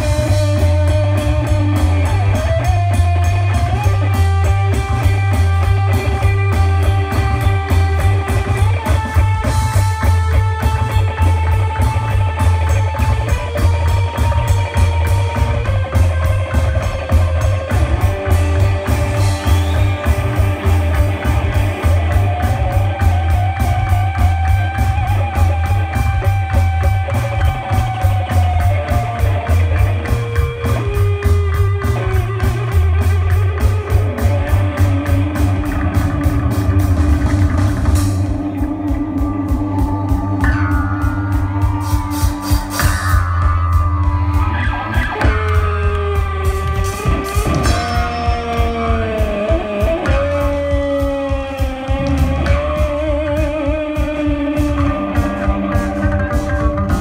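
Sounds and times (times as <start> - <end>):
drum kit: 0.0 - 57.0
electric bass line: 0.0 - 57.0
rock band playing: 0.0 - 57.0
sustained guitar tones: 0.0 - 57.0.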